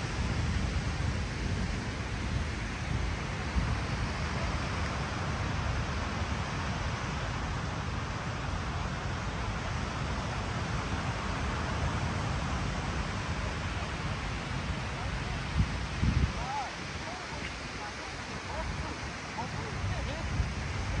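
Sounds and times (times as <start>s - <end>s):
steady rushing noise: 0.0s - 21.0s
wind buffeting microphone: 0.0s - 21.0s.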